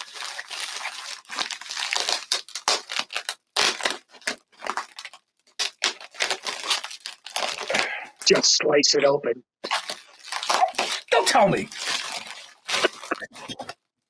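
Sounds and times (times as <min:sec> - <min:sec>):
packing paper crinkling: 0:00.0 - 0:08.3, 0:09.6 - 0:13.8.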